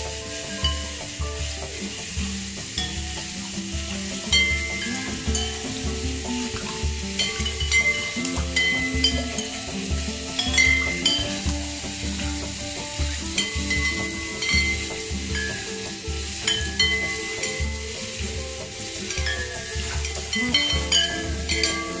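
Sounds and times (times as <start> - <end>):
floating bowls clinking: 0.0 - 22.0
watery hiss: 0.0 - 22.0.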